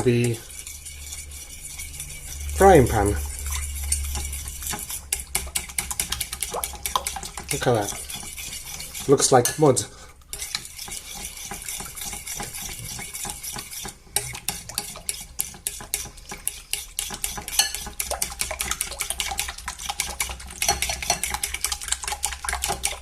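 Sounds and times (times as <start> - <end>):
utensil beating eggs in a bowl: 0.0 - 23.0.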